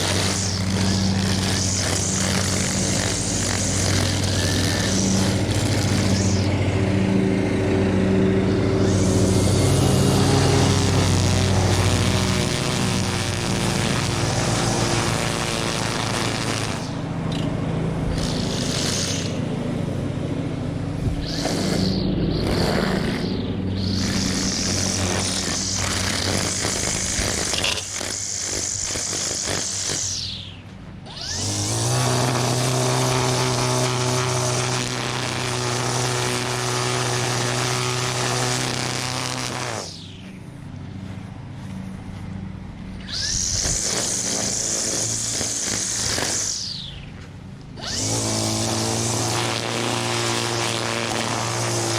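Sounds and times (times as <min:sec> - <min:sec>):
engine running steadily: 0:00.0 - 0:51.9
string trimmer whining: 0:00.0 - 0:51.9.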